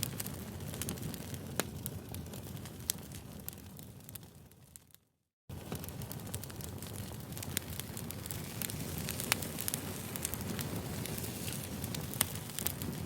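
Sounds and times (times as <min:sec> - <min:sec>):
crackling fire: 0:00.0 - 0:13.0.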